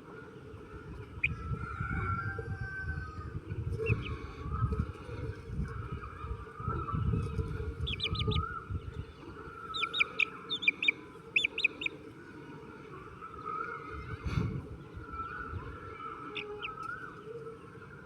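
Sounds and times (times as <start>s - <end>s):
birds chirping: 3.3s - 18.0s.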